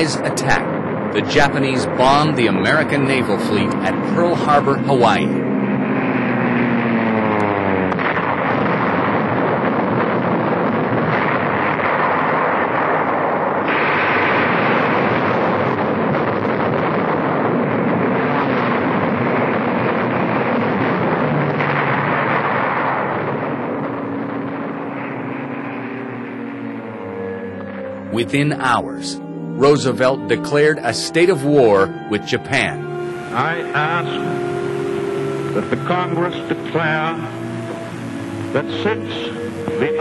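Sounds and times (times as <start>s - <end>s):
aircraft engines: 0.0s - 40.0s
explosions: 0.0s - 40.0s
falling whine: 0.0s - 40.0s.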